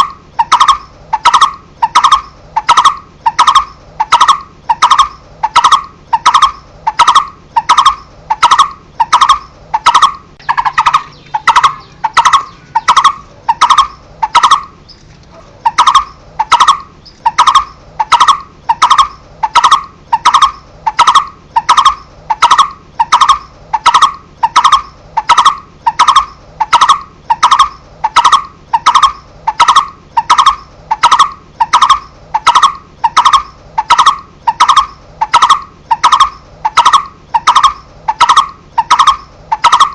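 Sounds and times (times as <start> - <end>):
barbet calling tuk notes: 0.0 - 39.9.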